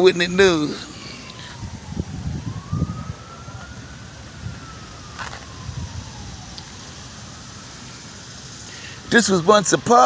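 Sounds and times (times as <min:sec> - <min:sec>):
faint emergency siren wailing: 0:00.0 - 0:10.0.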